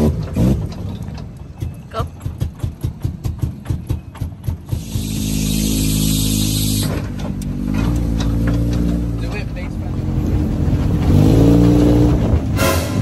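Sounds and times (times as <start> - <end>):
car engine pulsing: 0.0 - 13.0.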